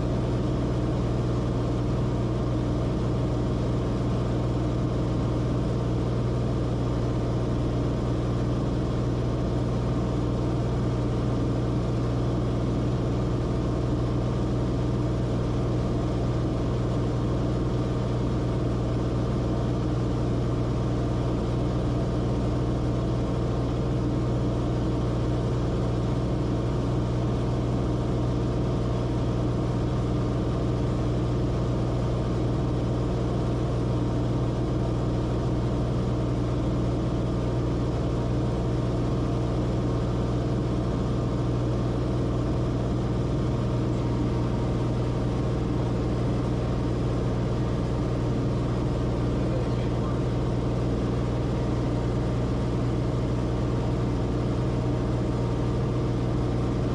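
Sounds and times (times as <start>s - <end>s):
aircraft cabin engine drone: 0.0s - 56.9s.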